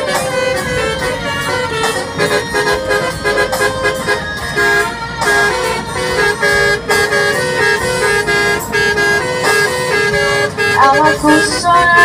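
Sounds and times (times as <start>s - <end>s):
multi-tone bus horn tune: 0.0s - 12.0s.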